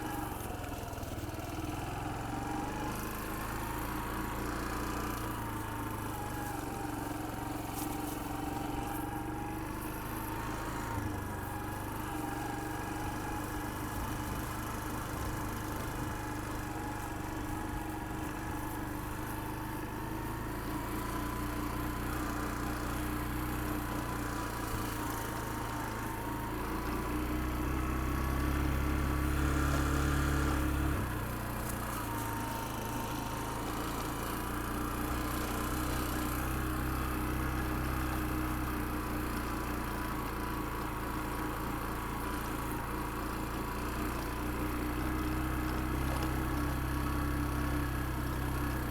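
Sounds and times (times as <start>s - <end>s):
engine running low rumble: 0.0s - 48.9s.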